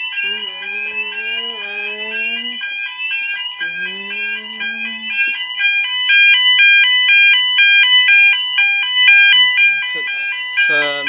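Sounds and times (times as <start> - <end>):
two-tone fire alarm: 0.0 - 11.0.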